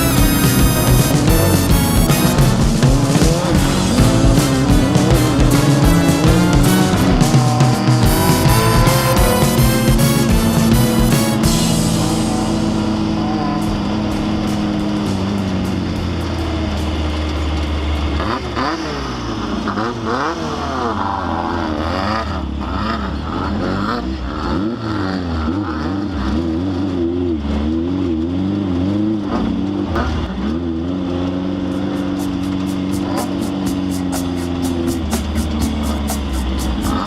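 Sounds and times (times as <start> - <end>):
race car engine droning: 0.0 - 37.0.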